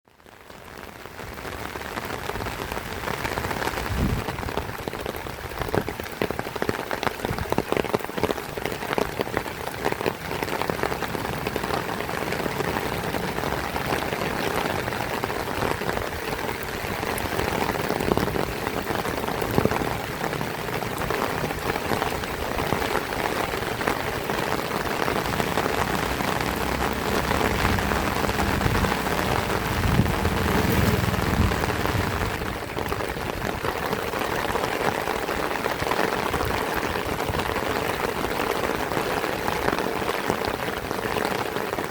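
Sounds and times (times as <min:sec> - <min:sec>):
heavy rain falling: 0:00.1 - 0:41.9.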